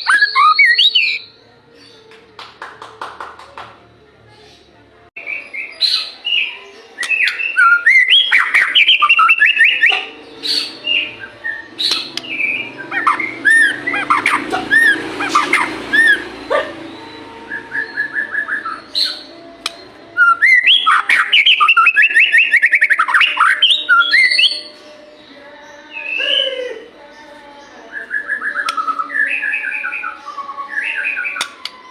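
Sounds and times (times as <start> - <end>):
bird singing whistles and trills: 0.0 - 1.4, 5.2 - 26.8, 27.9 - 31.9.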